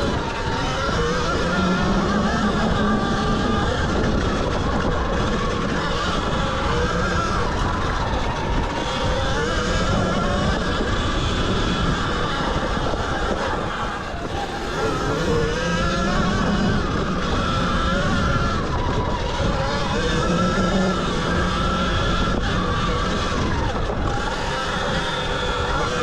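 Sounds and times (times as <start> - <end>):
electric motor whine: 0.0 - 26.0
wind rumble on microphone: 0.0 - 26.0.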